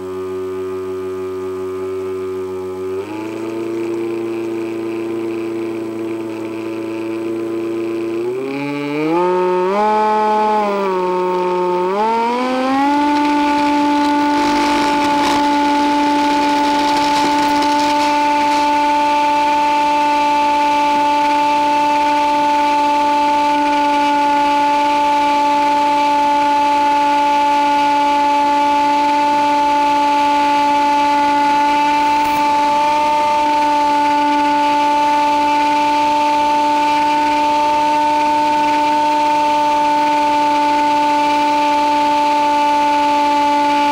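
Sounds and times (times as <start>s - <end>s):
model plane motor whining: 0.0s - 43.9s.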